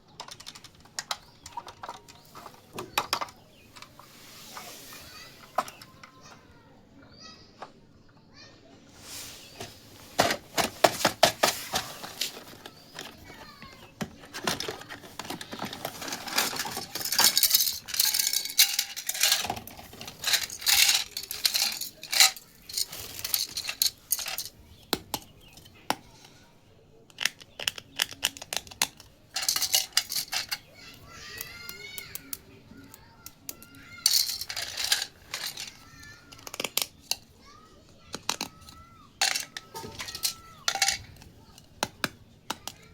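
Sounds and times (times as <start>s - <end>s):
plastic toy dishes clattering: 0.0s - 6.5s, 9.0s - 42.9s.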